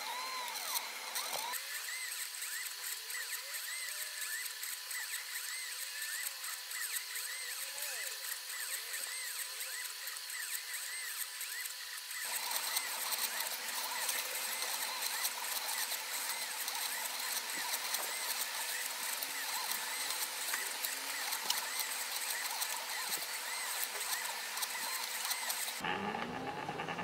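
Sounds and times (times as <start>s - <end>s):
stepper motor whine: 0.0s - 27.0s.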